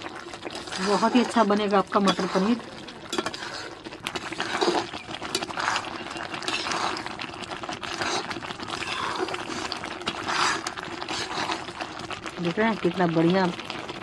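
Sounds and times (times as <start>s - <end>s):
gravy bubbling in a pot: 0.0s - 14.0s.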